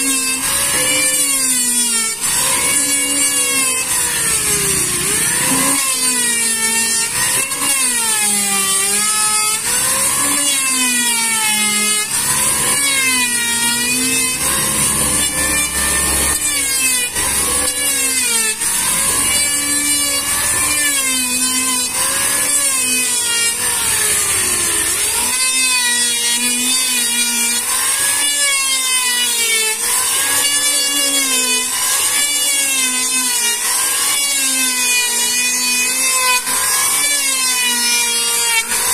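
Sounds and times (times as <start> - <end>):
electric planer cutting wood: 0.0 - 38.9.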